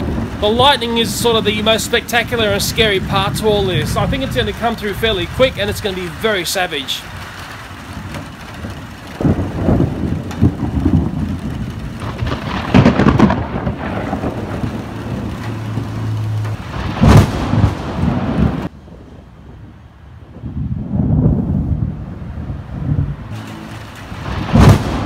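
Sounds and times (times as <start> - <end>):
light rain: 0.0 - 25.0
thunder rumbling and crackling: 0.0 - 25.0.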